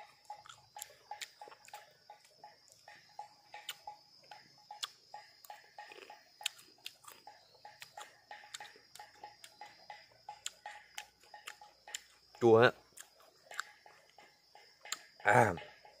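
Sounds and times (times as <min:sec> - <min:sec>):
chewing crunchy fruit: 0:00.0 - 0:03.0, 0:03.6 - 0:09.7, 0:10.3 - 0:14.3, 0:14.9 - 0:15.6.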